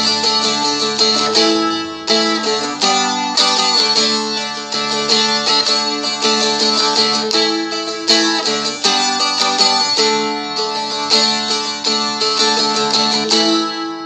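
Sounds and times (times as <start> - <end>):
open strings ringing: 0.0 - 14.0
strumstick melody picking: 0.0 - 14.0.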